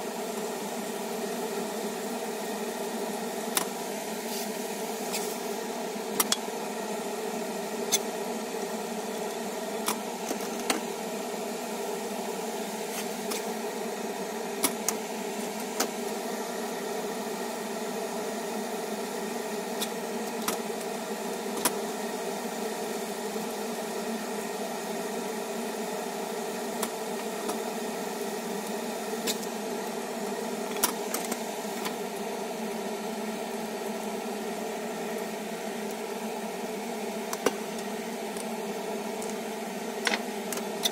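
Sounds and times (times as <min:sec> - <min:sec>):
pan simmering with whirring hiss: 0:00.0 - 0:40.9.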